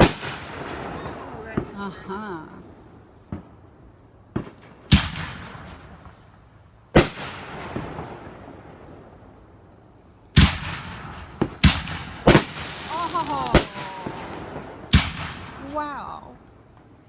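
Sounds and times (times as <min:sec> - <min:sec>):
fireworks booming: 0:00.0 - 0:09.5, 0:10.3 - 0:16.8.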